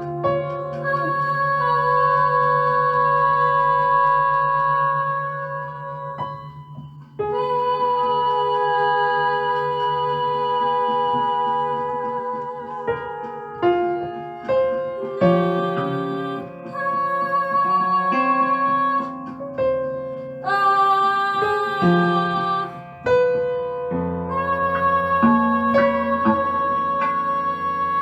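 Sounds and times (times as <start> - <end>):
piano playing slow chords: 0.0 - 28.0.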